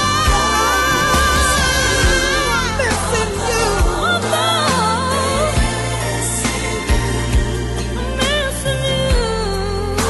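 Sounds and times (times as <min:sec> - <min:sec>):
person singing: 0:00.0 - 0:10.0
slow soul gospel song: 0:00.0 - 0:10.0.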